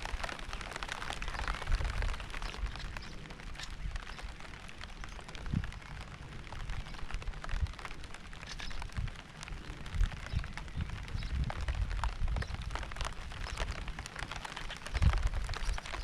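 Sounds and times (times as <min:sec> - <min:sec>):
raindrops pattering: 0:00.0 - 0:16.0
steady rain hiss: 0:00.0 - 0:16.0.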